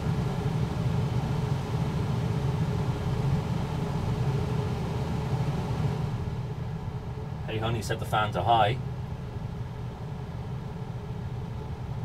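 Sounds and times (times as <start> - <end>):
air conditioner fan humming: 0.0 - 12.0.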